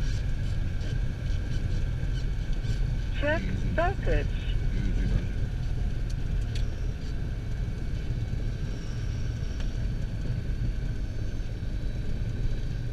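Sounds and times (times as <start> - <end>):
airplane engines rumbling: 0.0 - 12.9.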